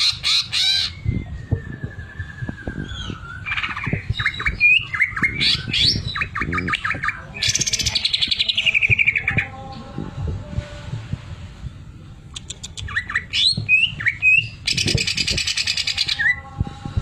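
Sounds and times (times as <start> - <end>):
bird singing whistles and chatters: 0.0 - 9.5, 12.3 - 16.5.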